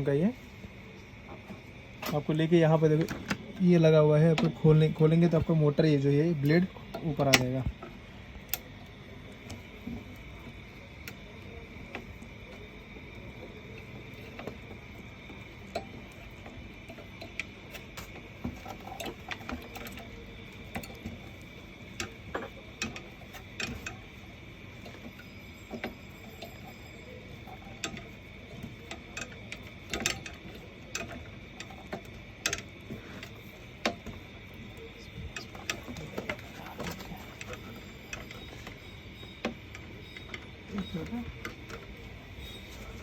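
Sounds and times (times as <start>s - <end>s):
faint high hum: 0.0s - 43.0s.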